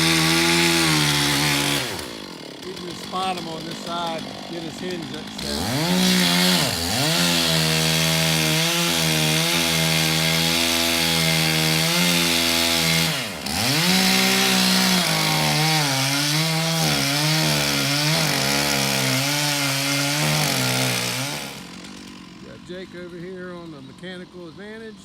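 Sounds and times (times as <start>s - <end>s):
chainsaw cutting into wood: 0.0s - 25.0s.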